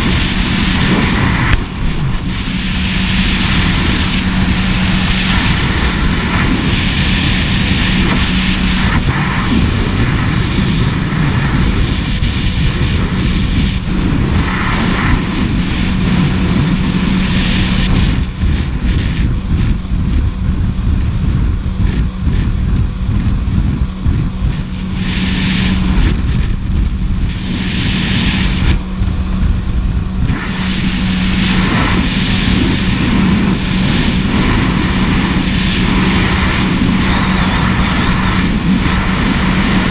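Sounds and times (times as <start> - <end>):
jet ski engine drone: 0.0 - 39.9
wind and water spray rushing: 0.0 - 39.9.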